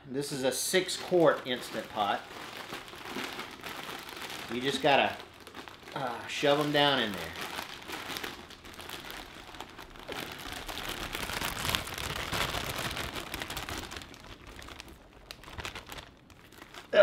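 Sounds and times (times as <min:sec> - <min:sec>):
greens rustling: 0:00.2 - 0:17.0
plastic bag crinkling: 0:00.4 - 0:17.0.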